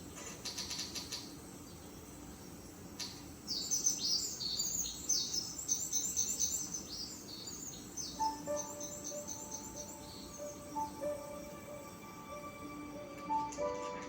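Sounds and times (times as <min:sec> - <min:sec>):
birds chirping: 0:00.0 - 0:13.7.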